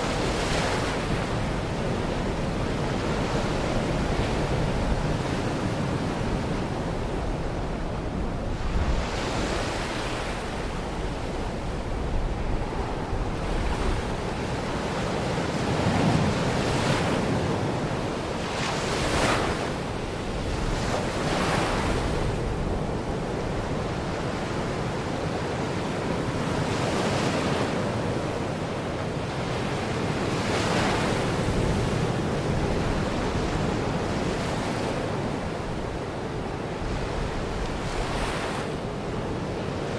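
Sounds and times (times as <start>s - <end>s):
waves washing onto shore: 0.0s - 39.9s
wind rumble on microphone: 0.0s - 39.9s.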